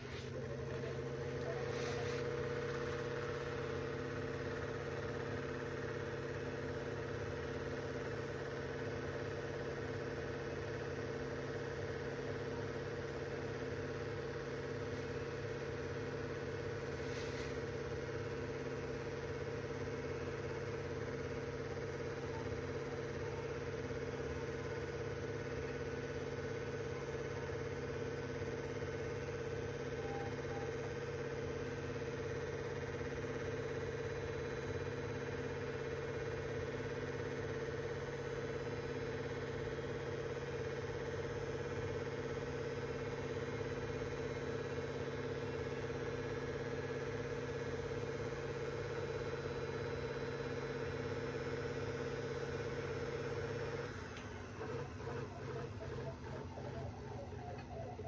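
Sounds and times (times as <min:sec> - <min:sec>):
tape recorder motors humming: 0:00.0 - 0:58.0.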